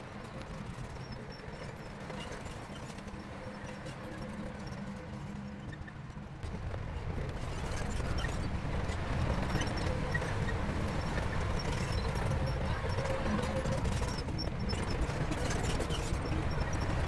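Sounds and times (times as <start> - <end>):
steel tracks clattering: 0.1 - 17.0.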